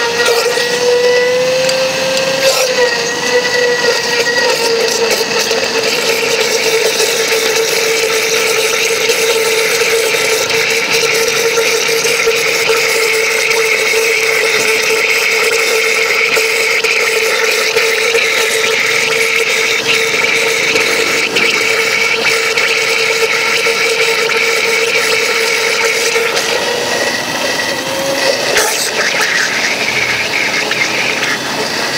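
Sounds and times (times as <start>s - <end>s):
electric blender whining: 0.0s - 31.9s.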